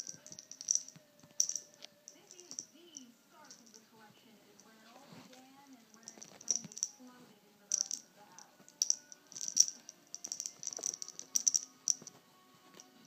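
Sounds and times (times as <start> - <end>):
cat toy rattling: 0.0 - 3.9, 4.5 - 12.2.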